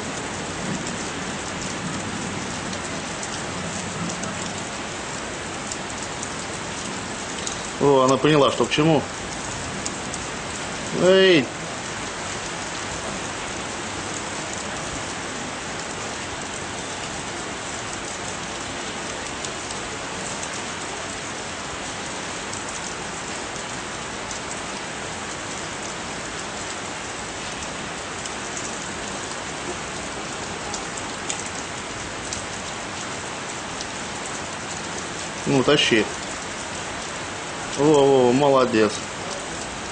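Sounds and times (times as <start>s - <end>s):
heavy rain on water and concrete: 0.0s - 39.9s.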